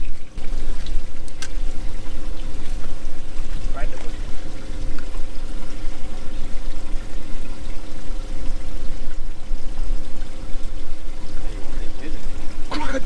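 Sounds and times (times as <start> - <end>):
low hum: 0.0 - 13.0
water pouring and splashing: 0.0 - 13.0.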